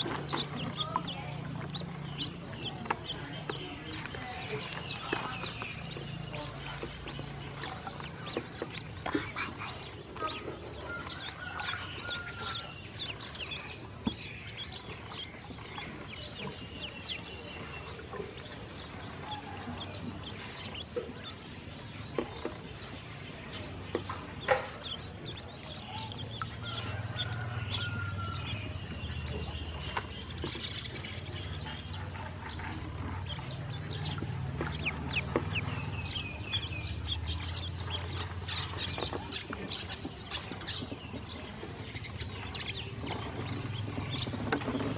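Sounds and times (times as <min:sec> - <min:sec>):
ducklings peeping: 0:00.0 - 0:44.9.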